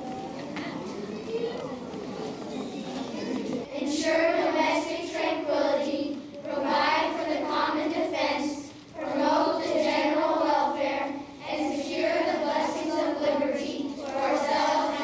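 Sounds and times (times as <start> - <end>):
children singing in unison: 2.4 - 15.0.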